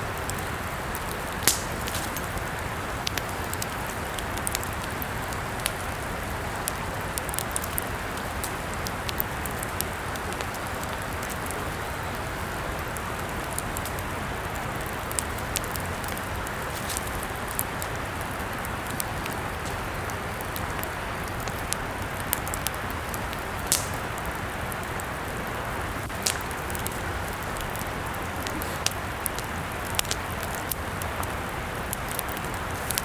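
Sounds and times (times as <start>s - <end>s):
burning wood crackling and popping: 0.0s - 33.0s
campfire hissing: 0.0s - 33.0s.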